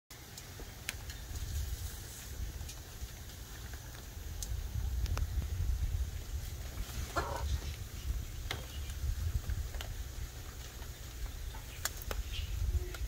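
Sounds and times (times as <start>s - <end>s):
steady low rumble: 0.4s - 13.0s.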